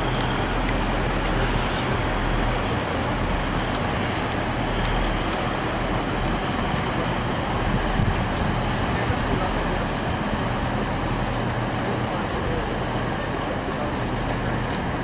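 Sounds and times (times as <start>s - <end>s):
city traffic noise: 0.0s - 15.0s
diesel train rumbling: 0.0s - 15.0s.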